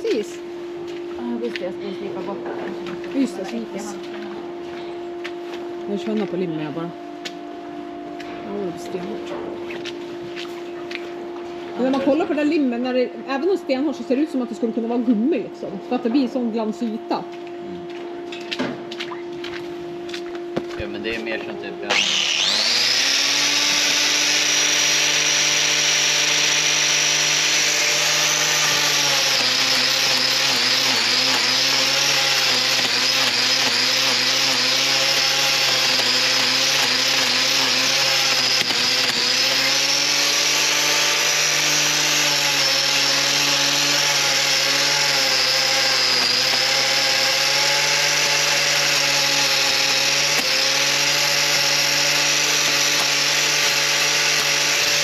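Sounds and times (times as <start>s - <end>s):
angle grinder grinding hoof: 0.0s - 55.0s.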